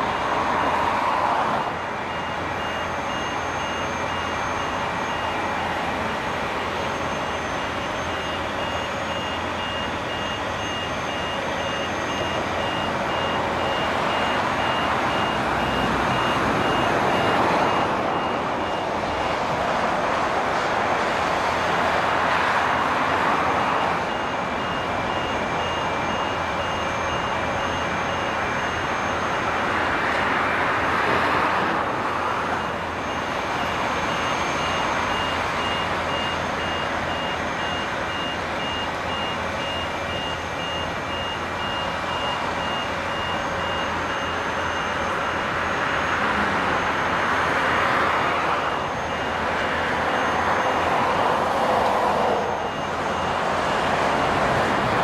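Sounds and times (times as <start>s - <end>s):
high-pitched warning beeper: 0.0s - 20.4s, 21.5s - 55.0s
construction machinery noise: 0.0s - 55.0s.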